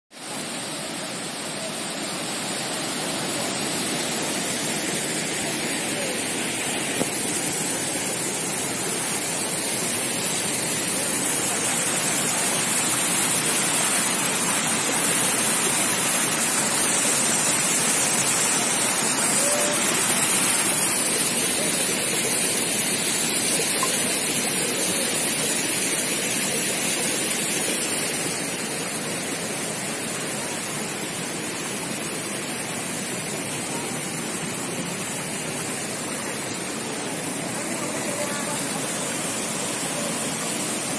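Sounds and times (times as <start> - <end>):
river water cascading over rocks: 0.2 - 40.9.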